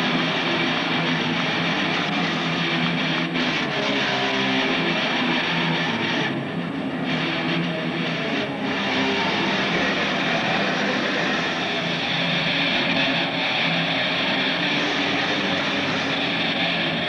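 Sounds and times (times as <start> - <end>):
distorted electric guitars chugging: 0.0 - 17.0
heavy metal band playing live: 0.0 - 17.0.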